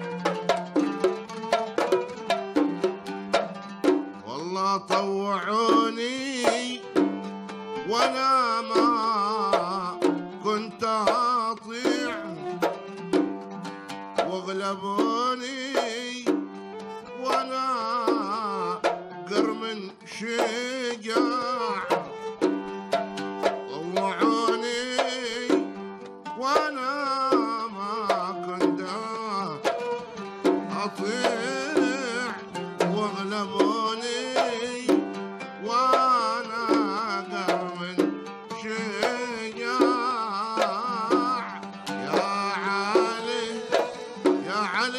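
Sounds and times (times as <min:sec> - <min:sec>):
hand drums beat: 0:00.0 - 0:44.9
oud: 0:00.0 - 0:44.9
violin melody: 0:00.0 - 0:44.9.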